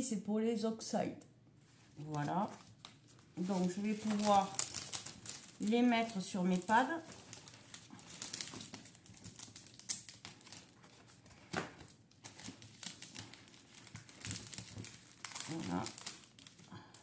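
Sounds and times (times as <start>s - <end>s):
packaging rustling: 1.6s - 17.0s.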